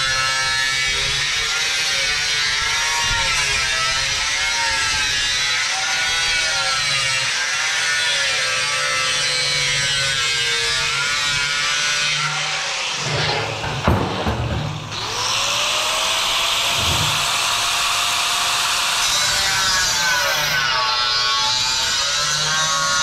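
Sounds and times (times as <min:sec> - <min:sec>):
angle grinder grinding steel: 0:00.0 - 0:23.0.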